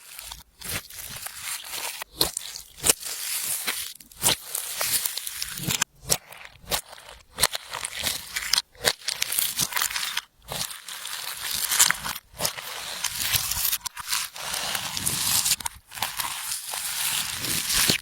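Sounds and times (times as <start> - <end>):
slime squeezed by hand: 0.1 - 18.0.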